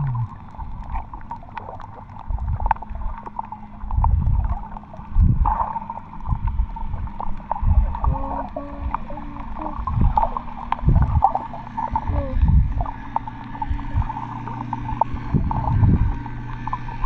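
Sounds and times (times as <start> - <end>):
low hum: 0.0 - 17.0
underwater water surges: 0.0 - 17.0.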